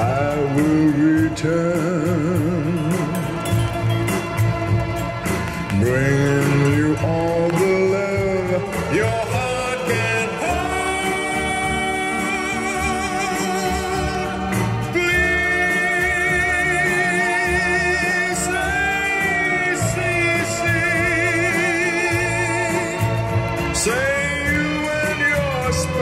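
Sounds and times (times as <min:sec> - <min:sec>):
pop ballad on hi-fi: 0:00.0 - 0:26.0.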